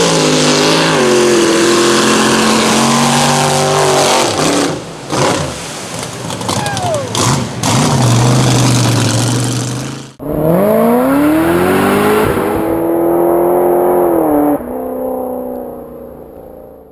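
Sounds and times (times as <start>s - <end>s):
truck engines at full throttle: 0.0s - 16.9s.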